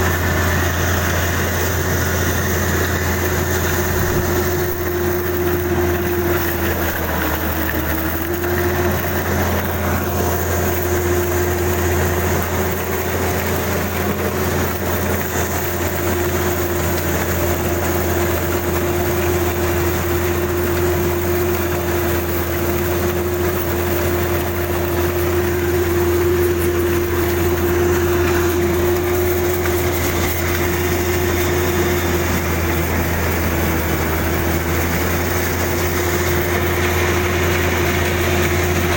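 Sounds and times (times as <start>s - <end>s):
diesel engine running with whine: 0.0s - 38.9s.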